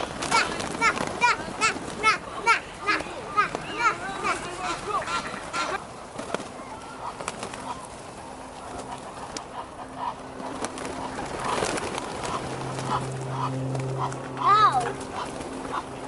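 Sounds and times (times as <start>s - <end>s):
low steady hum: 0.0s - 16.0s
pigeons cooing: 0.0s - 16.0s.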